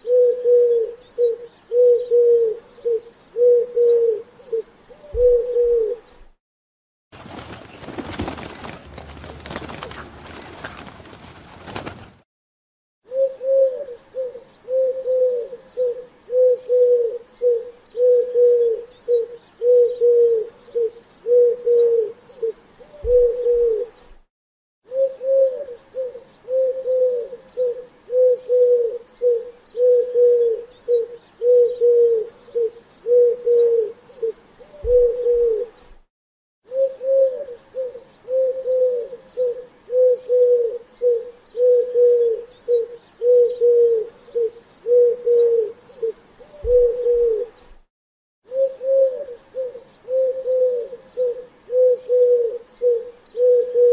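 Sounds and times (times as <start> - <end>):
pigeon cooing: 0.0 - 6.2, 13.0 - 24.0, 24.9 - 35.9, 36.7 - 47.7, 48.5 - 53.9.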